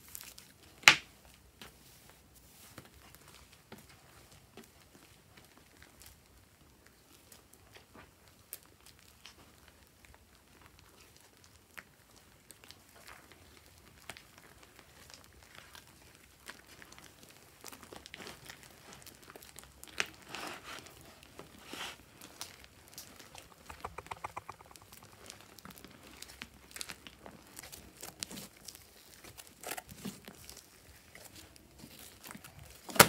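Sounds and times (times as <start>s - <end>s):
slime crackling and popping: 4.6s - 33.0s.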